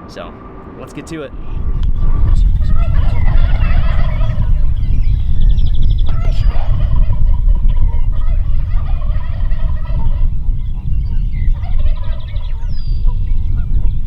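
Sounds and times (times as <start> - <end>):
steady low rumble: 1.2 - 14.0
turkeys gobbling: 1.9 - 14.0.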